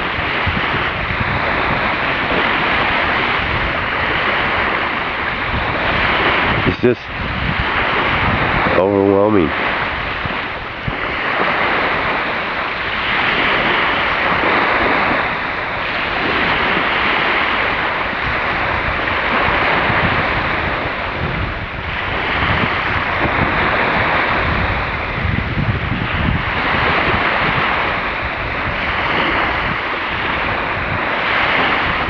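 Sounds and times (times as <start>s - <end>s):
surf washing ashore: 0.0s - 32.0s
wind buffeting microphone: 0.0s - 32.0s.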